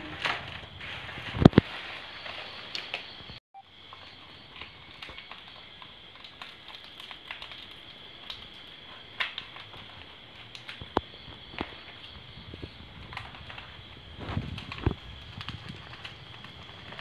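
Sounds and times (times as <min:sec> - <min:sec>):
leaves and string crinkling: 0:00.0 - 0:17.0.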